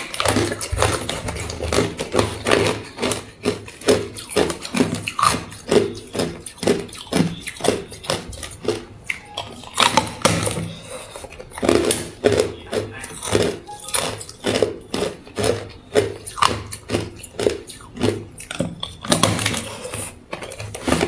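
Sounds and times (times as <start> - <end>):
ice crunching between teeth: 0.0 - 21.0.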